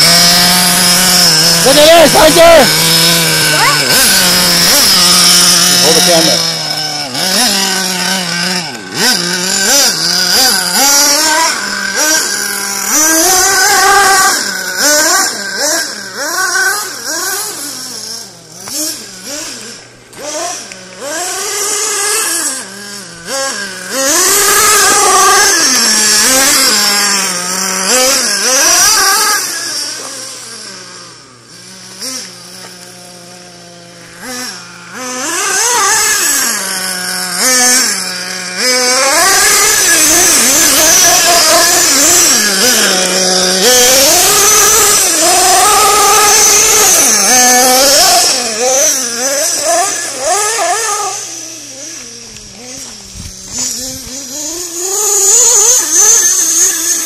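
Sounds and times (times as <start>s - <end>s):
small nitro engine revving: 0.0s - 57.0s.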